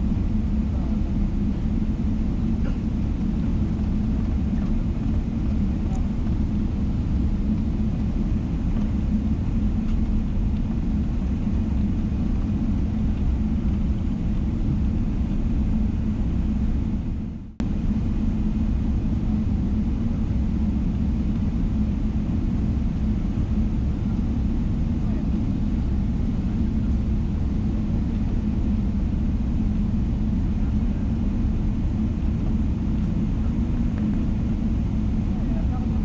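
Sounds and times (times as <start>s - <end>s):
airplane engines rumbling in cabin: 0.0s - 36.0s.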